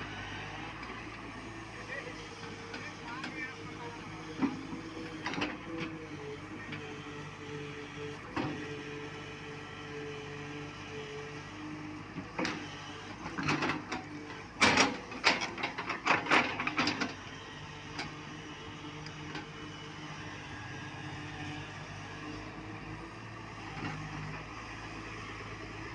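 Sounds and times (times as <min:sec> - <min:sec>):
excavator diesel engine humming: 0:00.0 - 0:25.9.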